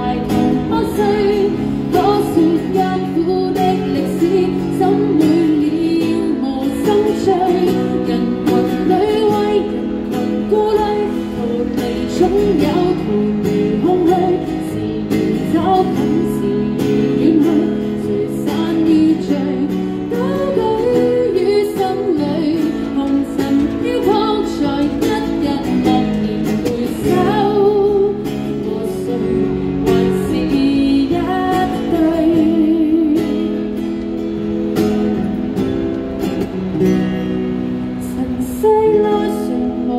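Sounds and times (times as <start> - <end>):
woman singing into microphone: 0.0 - 34.2, 37.9 - 39.9
acoustic guitar: 0.0 - 39.9.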